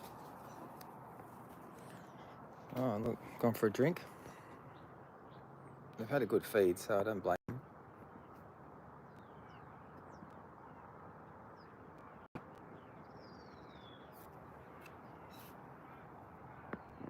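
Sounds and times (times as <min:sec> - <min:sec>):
distant bird calls: 0:00.0 - 0:17.0
low outdoor background hum: 0:00.0 - 0:17.0.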